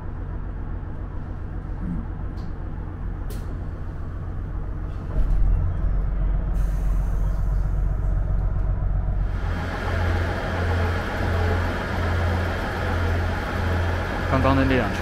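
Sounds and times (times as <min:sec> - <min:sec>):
diesel engine drone: 0:00.0 - 0:15.0
rumble from the rails: 0:00.0 - 0:15.0.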